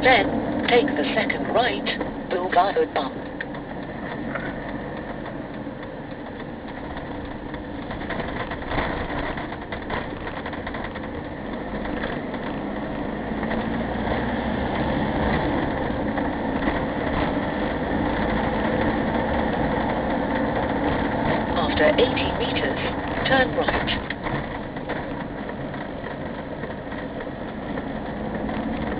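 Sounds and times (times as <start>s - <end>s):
road noise inside cab: 0.0s - 28.9s
vehicle engine rumble: 0.0s - 28.9s.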